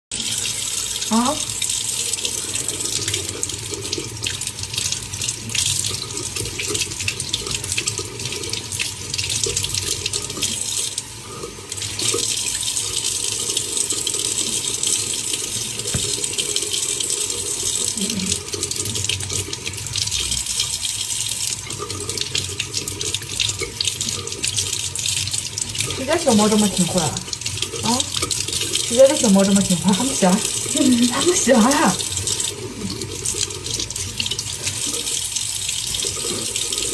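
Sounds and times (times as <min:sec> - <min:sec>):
water running from tap: 0:00.1 - 0:36.9.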